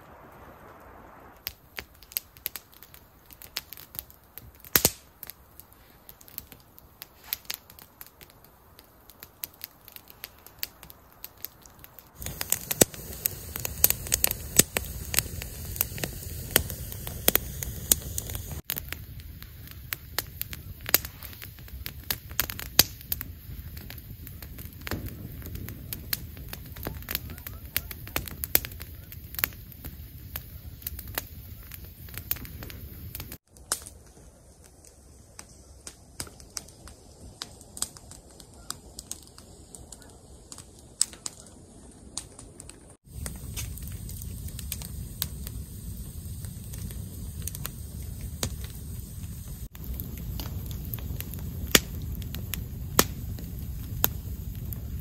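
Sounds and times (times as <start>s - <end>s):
campfire crackling and popping: 0.0s - 55.0s
low rush of fire: 0.0s - 55.0s.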